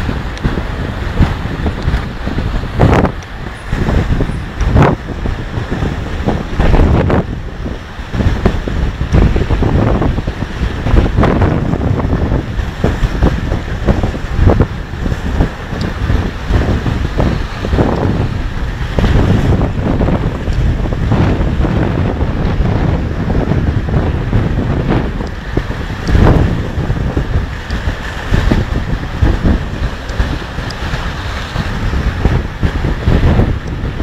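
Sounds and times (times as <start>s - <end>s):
waves splashing against seawall: 0.0s - 34.0s
wind buffeting microphone: 0.0s - 34.0s.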